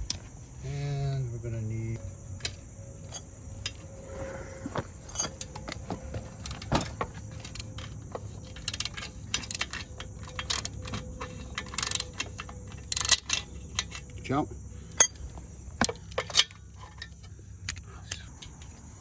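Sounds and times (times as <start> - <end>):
metal tools clinking: 2.4 - 3.9, 5.0 - 19.0.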